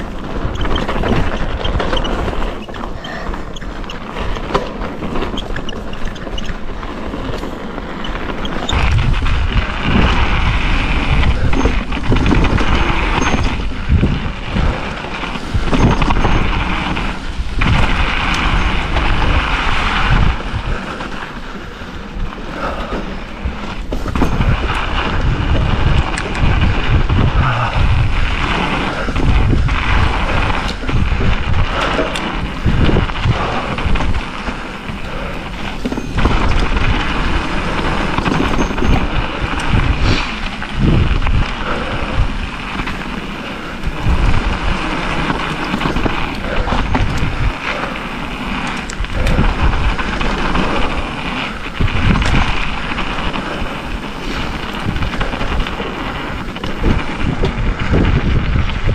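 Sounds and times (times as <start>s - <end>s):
bike knocking and rattling: 0.0s - 58.9s
bike tyres on gravel: 0.0s - 58.9s
wind buffeting microphone: 0.0s - 58.9s.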